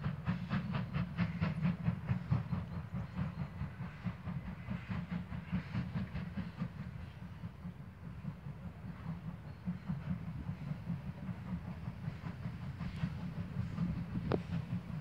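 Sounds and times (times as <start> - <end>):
steam locomotives chuffing: 0.0 - 15.0.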